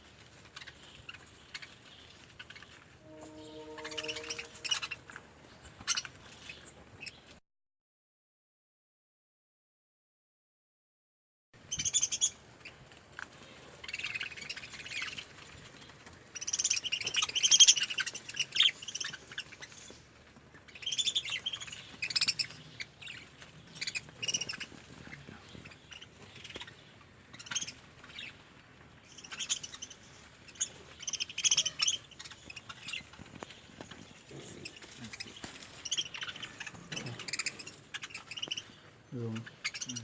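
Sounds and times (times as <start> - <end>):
budgerigars chirping and chattering: 0.2 - 3.0, 3.8 - 7.4, 11.6 - 12.8, 13.4 - 40.0.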